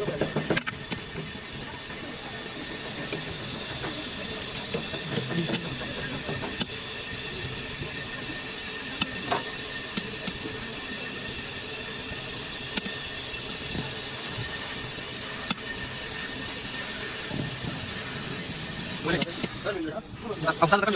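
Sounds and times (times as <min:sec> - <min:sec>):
mechanical workshop hum: 0:00.0 - 0:20.9.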